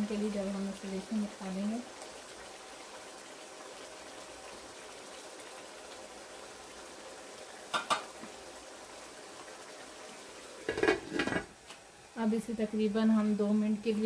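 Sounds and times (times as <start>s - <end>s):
curry simmering in a pot: 0.0s - 14.0s.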